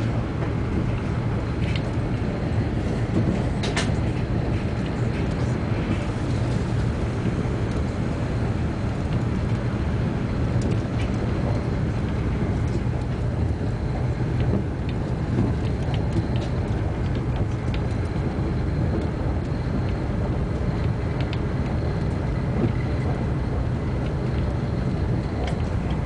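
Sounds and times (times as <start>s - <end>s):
train rumbling at speed: 0.0s - 26.0s.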